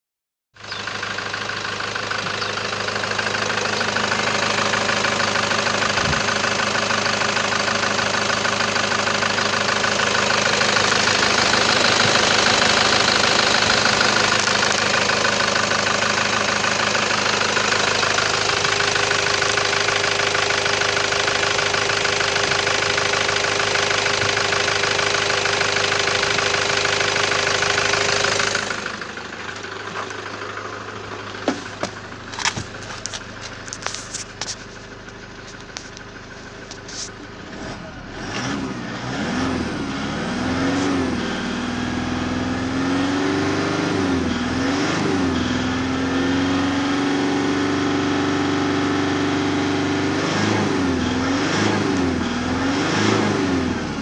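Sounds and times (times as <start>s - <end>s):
diesel engine idling: 0.6s - 54.0s.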